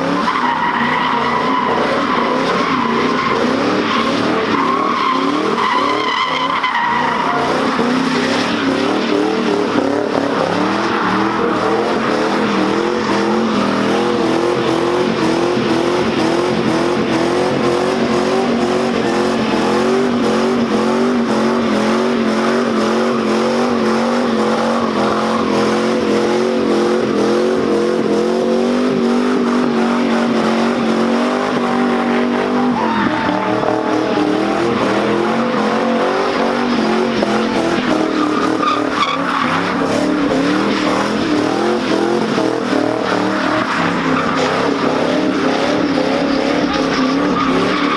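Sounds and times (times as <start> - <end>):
car engine revving high: 0.0 - 47.9
tires squealing: 0.0 - 47.9.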